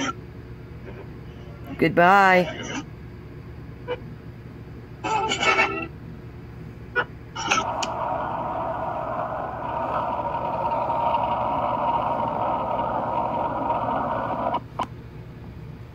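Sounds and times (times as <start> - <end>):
static hiss with faint hum: 0.0 - 15.9.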